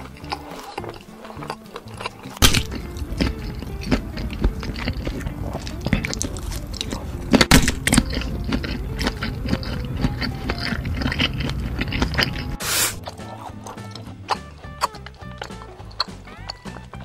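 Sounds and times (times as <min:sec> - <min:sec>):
crunchy biting and chewing: 0:00.0 - 0:17.0.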